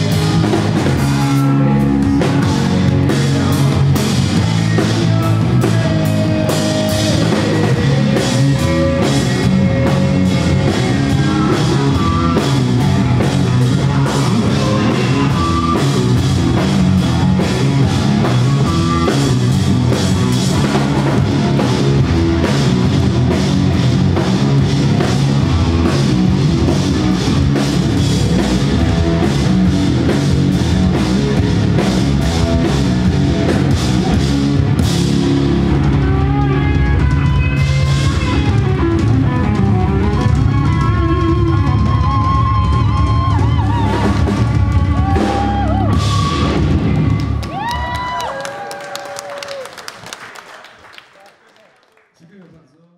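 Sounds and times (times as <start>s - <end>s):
drum kit drumming: 0.0s - 48.2s
electric bass: 0.0s - 48.4s
electric guitar: 0.0s - 49.6s.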